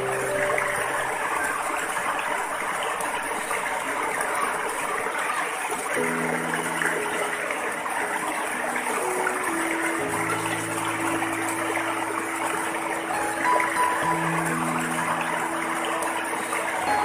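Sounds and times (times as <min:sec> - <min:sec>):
soft sustained music notes: 0:00.0 - 0:02.6, 0:06.0 - 0:17.0
waterfall rushing and splashing: 0:00.0 - 0:17.0.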